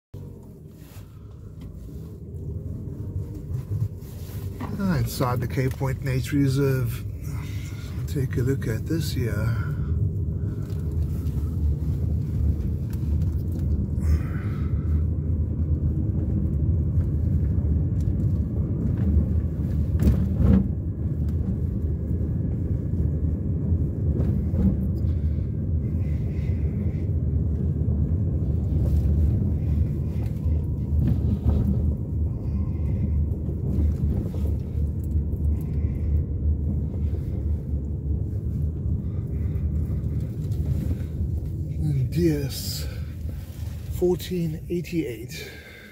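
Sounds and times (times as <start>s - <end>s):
car engine and tyre rumble: 0.1s - 45.9s.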